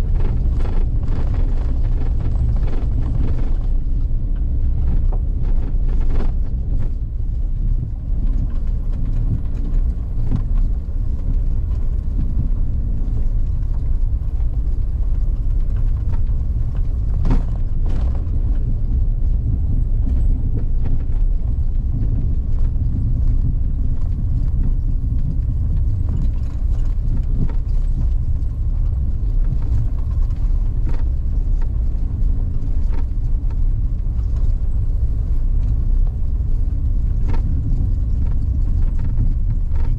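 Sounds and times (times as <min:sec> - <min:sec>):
vehicle engine and tyres rumbling: 0:00.0 - 0:39.9.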